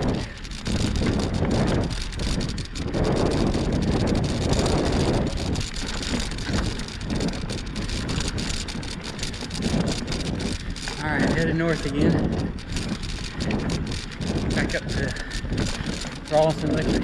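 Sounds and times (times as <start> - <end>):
bike tyres rattling on dirt trail: 0.0 - 17.0
wind buffeting microphone: 0.0 - 17.0.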